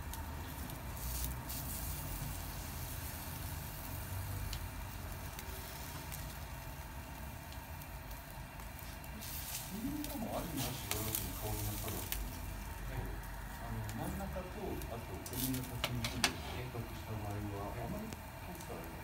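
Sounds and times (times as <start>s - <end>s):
skewers sizzling on a gas grill: 0.0s - 19.0s.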